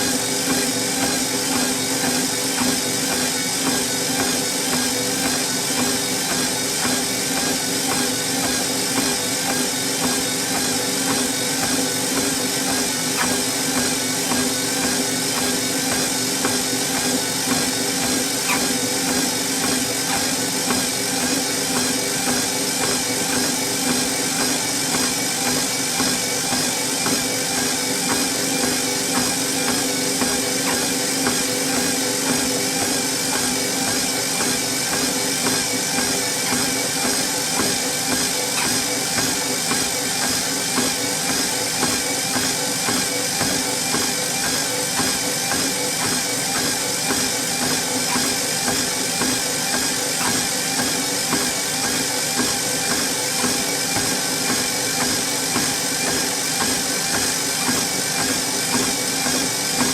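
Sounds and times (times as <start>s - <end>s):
footsteps on treadmill belt: 0.0s - 59.9s
treadmill motor humming: 0.0s - 59.9s.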